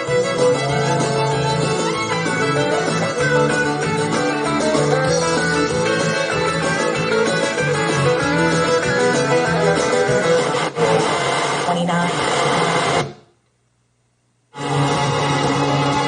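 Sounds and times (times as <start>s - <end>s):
song with guitar over loudspeakers: 0.0s - 13.2s.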